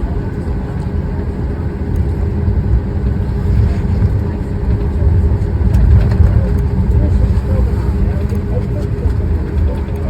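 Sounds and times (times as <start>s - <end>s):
constant engine hum: 0.0s - 10.0s
jet engines rumbling: 0.0s - 10.0s.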